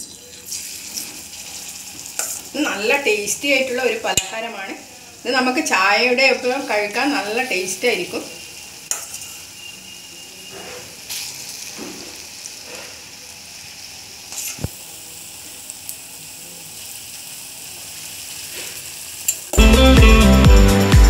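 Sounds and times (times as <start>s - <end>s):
fritters sizzling in hot oil: 0.0s - 19.6s.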